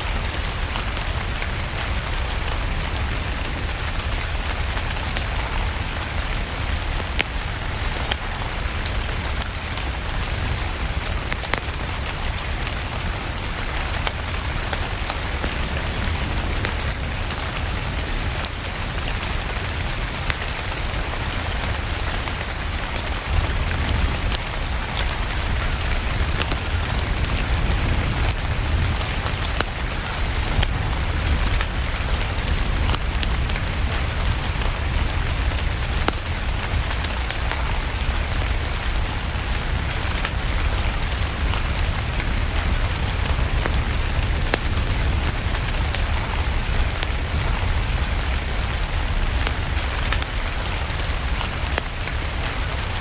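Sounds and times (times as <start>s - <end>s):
rain hissing: 0.0s - 53.0s
wood fire crackling: 0.0s - 53.0s.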